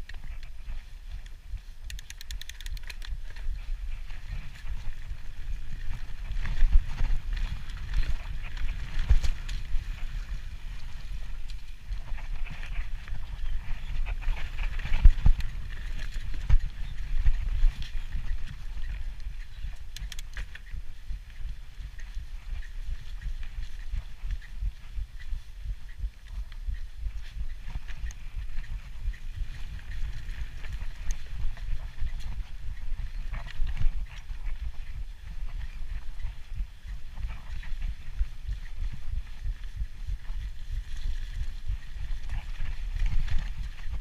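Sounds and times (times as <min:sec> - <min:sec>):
bike hub rapid ticking: 0:00.0 - 0:44.0
wind and trail vibration rumble: 0:00.0 - 0:44.0.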